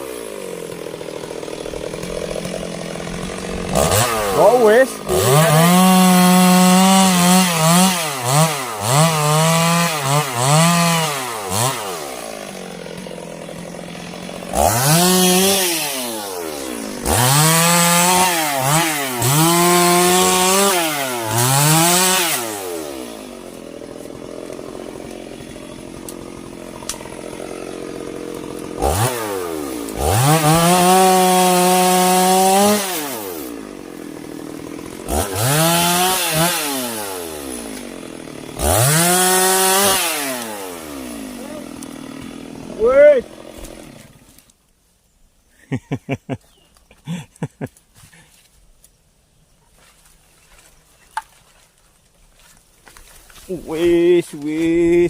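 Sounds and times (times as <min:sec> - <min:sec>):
chainsaw cutting wood: 0:00.0 - 0:44.7, 0:45.5 - 0:49.0, 0:49.8 - 0:55.0.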